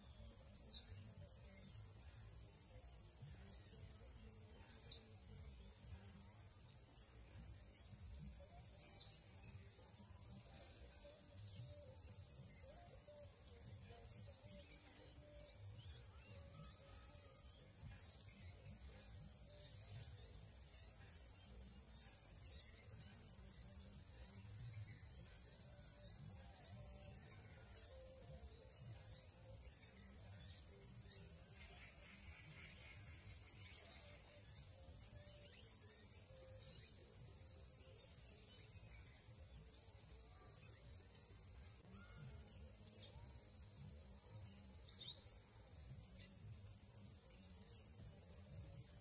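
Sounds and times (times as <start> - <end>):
insect chirps: 0.0 - 49.0
insects droning: 0.0 - 49.0.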